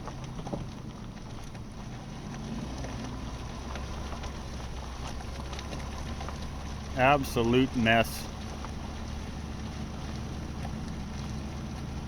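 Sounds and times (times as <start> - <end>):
pickup truck driving drone: 0.0 - 12.0.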